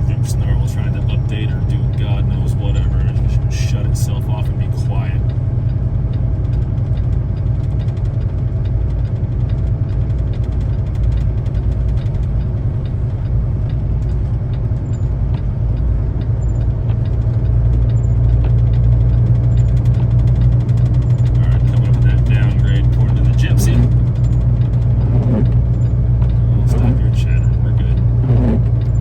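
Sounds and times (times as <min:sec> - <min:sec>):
diesel truck engine running: 0:00.0 - 0:29.0
light ticks: 0:05.2 - 0:29.0.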